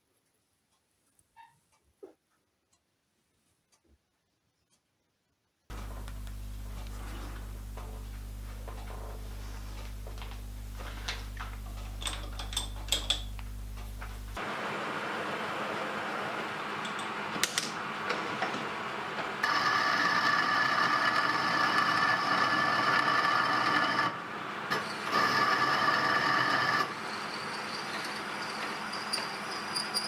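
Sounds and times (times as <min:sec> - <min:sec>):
high machine whine: 0:05.7 - 0:30.0
workshop machine running: 0:05.7 - 0:30.0.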